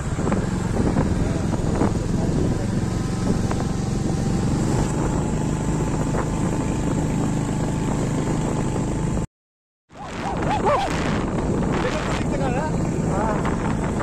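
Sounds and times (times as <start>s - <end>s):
motorcycle engine running: 0.0s - 9.3s, 10.0s - 14.0s
road noise: 0.0s - 9.3s, 9.9s - 14.0s
wind on microphone: 0.0s - 9.3s, 9.9s - 14.0s.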